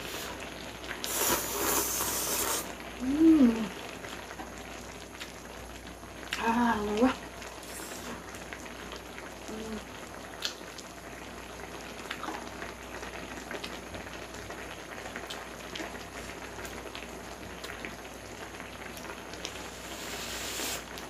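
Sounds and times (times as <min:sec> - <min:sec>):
hot pot bubbling: 0:00.0 - 0:21.0.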